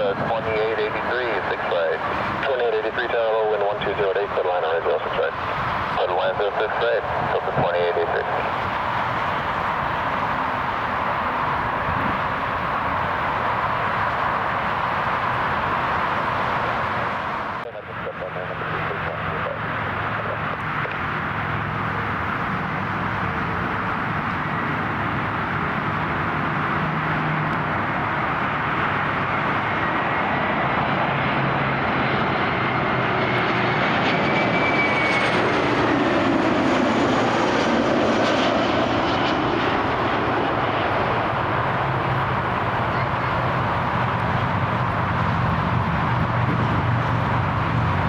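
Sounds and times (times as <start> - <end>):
airliner engines passing: 0.0 - 48.0.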